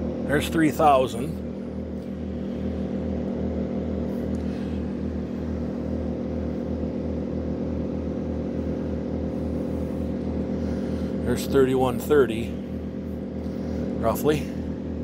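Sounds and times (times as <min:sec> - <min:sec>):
generators droning: 0:00.0 - 0:15.0.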